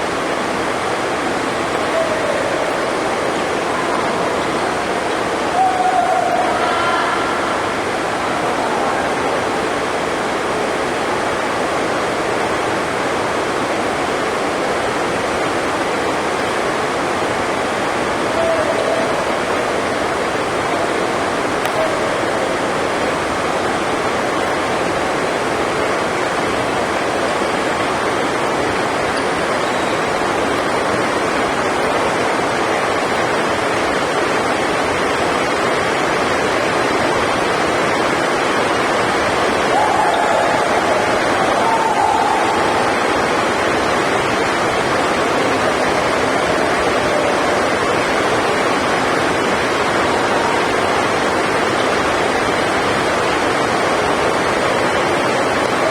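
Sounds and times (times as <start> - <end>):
heavy rain drumming on a roof: 0.0 - 55.9.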